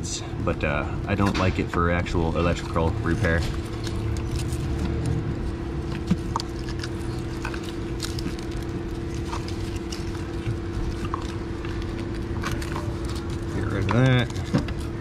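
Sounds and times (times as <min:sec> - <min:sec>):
steady hum: 0:00.0 - 0:15.0
tape and wires clicking and rustling: 0:01.1 - 0:15.0.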